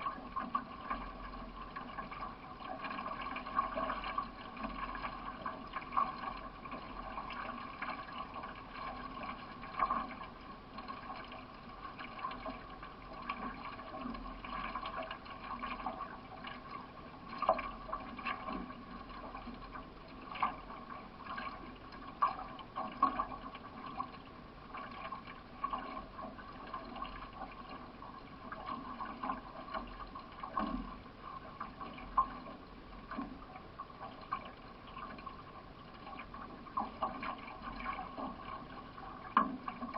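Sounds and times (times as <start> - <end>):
water washing around paddled canoe: 0.0 - 39.9.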